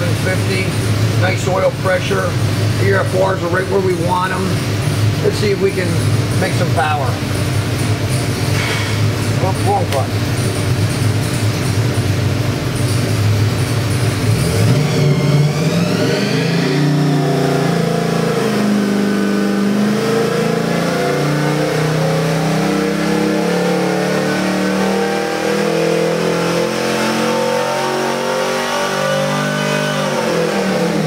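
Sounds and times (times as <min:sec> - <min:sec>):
supercharged engine revving under load: 0:00.0 - 0:11.8, 0:12.8 - 0:31.0.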